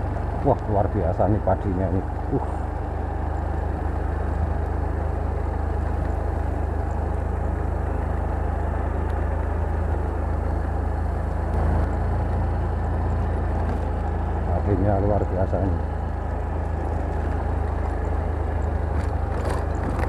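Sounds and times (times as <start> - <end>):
small motorcycle engine running: 0.0 - 20.0.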